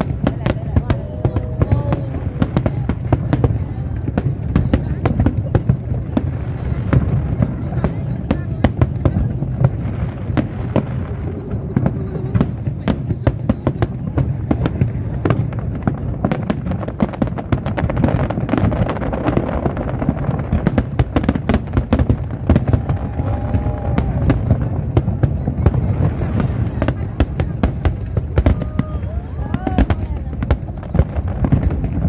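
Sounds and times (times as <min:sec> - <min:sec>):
fireworks cracks and bangs: 0:00.0 - 0:32.0.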